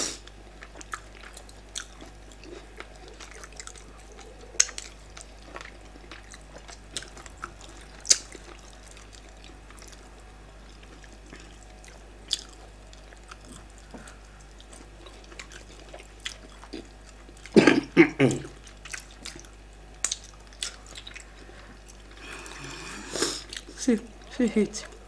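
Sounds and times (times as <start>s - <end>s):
wet chewing and mouth smacks: 0.6s - 10.1s, 10.7s - 17.6s, 18.5s - 22.2s.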